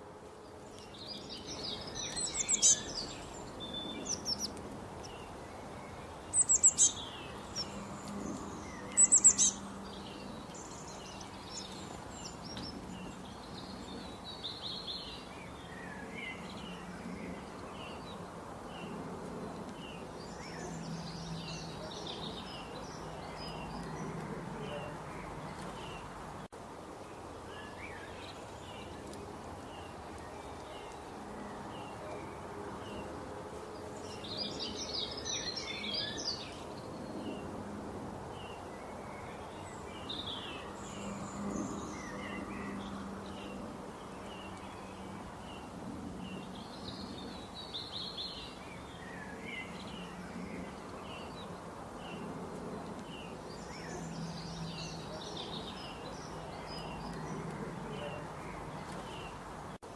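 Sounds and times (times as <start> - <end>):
birds chirping and warbling: 0.0 - 59.9
steady background hiss: 0.0 - 59.9.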